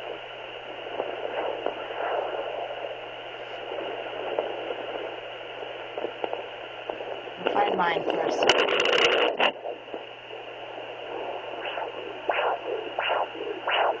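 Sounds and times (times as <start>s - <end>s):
doppler speaker static hiss: 0.0s - 14.0s.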